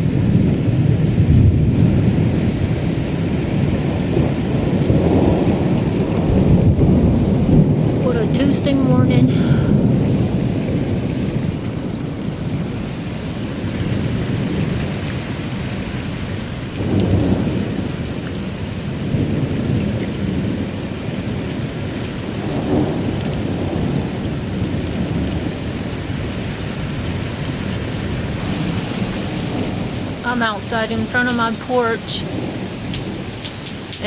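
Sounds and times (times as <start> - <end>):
low rolling thunder: 0.0 - 14.9, 16.7 - 31.2, 32.2 - 34.0
steady rain: 0.0 - 34.0.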